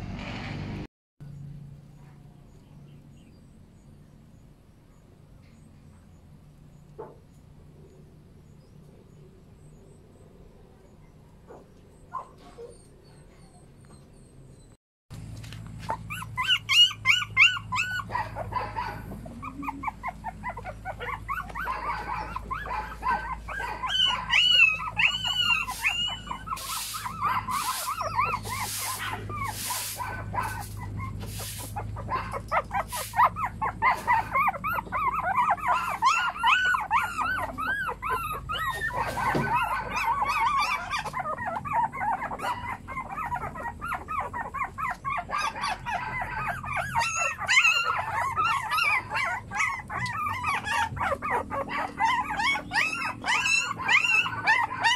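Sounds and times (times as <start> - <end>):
puppies whimpering and squealing: 5.4 - 14.8, 15.6 - 54.9.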